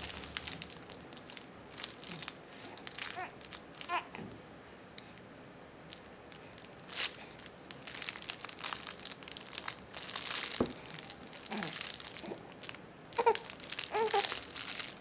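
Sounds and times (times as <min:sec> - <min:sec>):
crinkly toy rustling: 0:00.0 - 0:04.2, 0:05.8 - 0:15.0.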